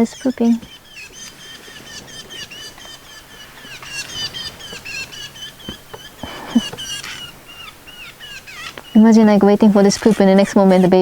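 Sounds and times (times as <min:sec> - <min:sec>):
birds chirping rapidly: 0:00.0 - 0:11.0.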